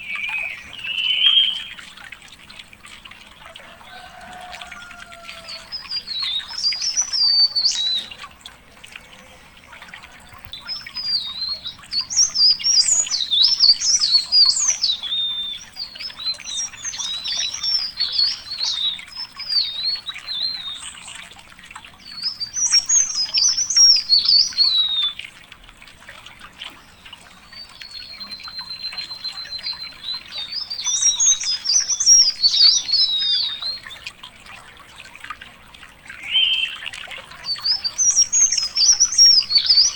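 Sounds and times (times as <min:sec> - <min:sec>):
songbird warbling: 0:00.0 - 0:02.0, 0:03.5 - 0:25.3, 0:26.8 - 0:34.1, 0:36.0 - 0:39.9.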